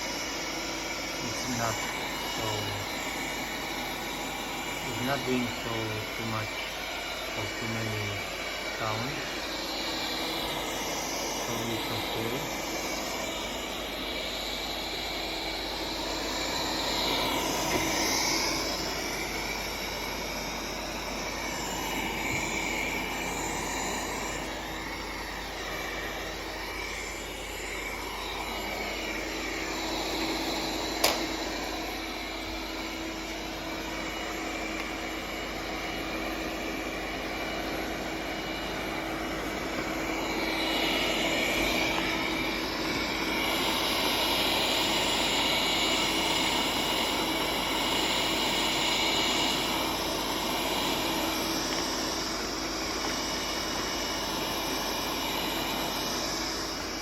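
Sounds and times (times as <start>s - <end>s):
robot vacuum cleaner whirring: 0.0s - 57.0s.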